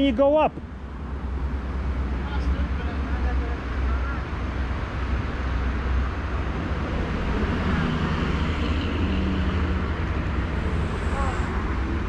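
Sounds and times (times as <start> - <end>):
traffic rumble: 0.0 - 12.0
vehicle passing: 0.7 - 12.0.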